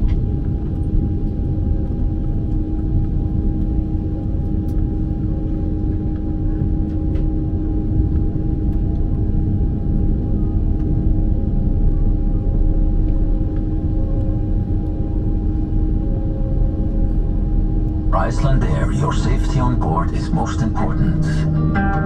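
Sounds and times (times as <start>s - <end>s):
aircraft cabin rumble and hum: 0.0s - 22.0s.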